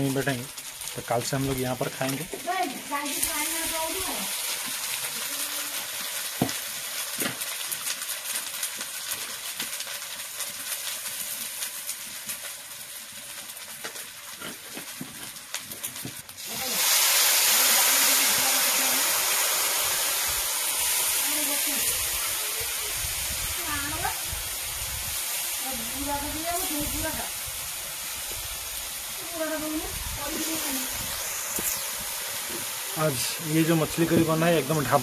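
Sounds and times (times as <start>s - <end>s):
loud hiss of steam: 0.0s - 15.2s, 16.4s - 35.0s
spices sizzling in hot oil: 0.0s - 35.0s.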